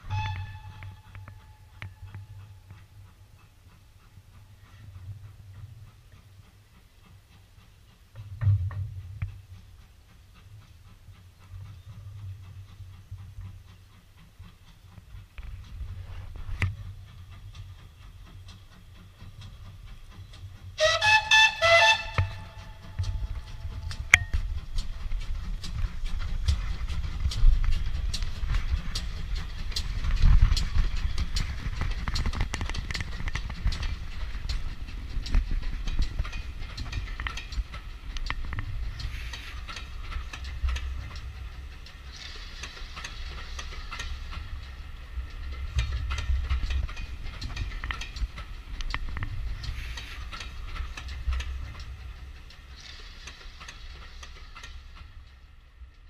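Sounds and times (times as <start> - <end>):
steam locomotive rumble: 0.0 - 56.0
wheels clicking and knocking: 0.0 - 56.0.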